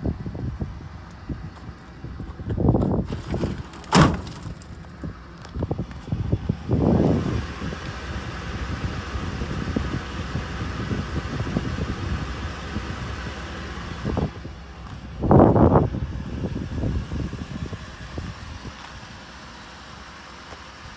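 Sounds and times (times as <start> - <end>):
wind buffeting microphone: 0.0 - 3.8, 4.7 - 19.3.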